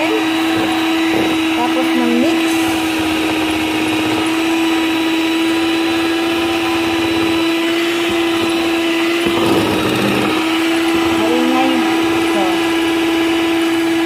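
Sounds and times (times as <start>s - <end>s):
electric hand mixer running: 0.0s - 14.0s.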